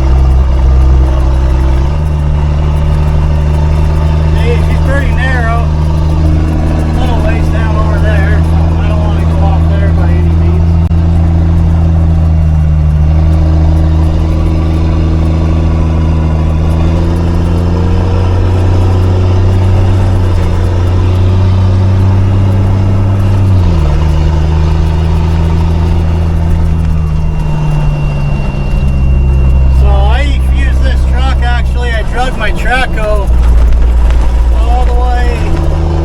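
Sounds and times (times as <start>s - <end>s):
truck engine under load: 0.0s - 36.0s.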